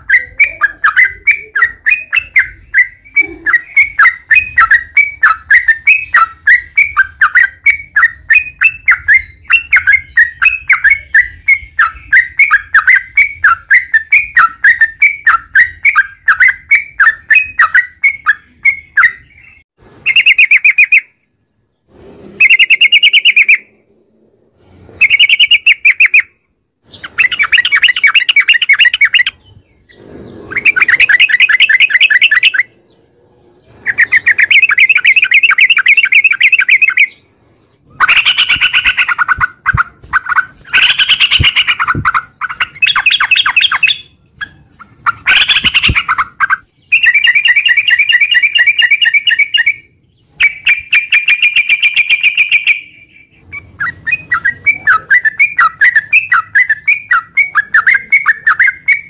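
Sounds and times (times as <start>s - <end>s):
bird chirping and trilling: 0.0s - 59.0s.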